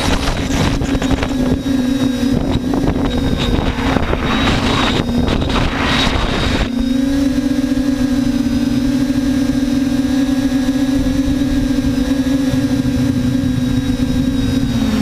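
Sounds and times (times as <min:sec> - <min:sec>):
drone propellers droning: 0:00.0 - 0:15.0
wind buffeting microphone: 0:00.0 - 0:15.0.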